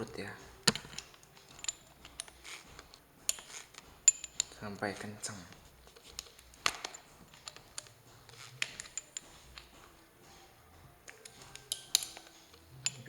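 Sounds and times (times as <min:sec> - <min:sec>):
chuck key clicking on drill chuck: 0:00.0 - 0:13.0.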